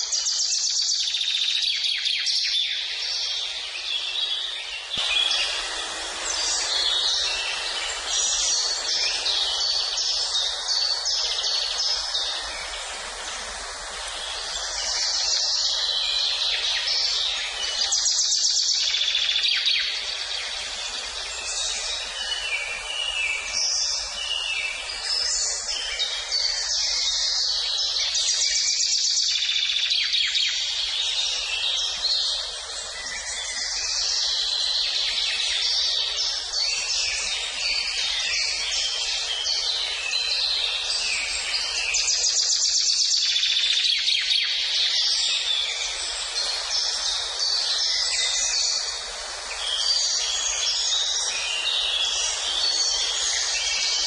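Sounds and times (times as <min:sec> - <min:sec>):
songbirds singing and chirping: 0:00.0 - 0:54.0
steady background hiss: 0:00.0 - 0:54.0.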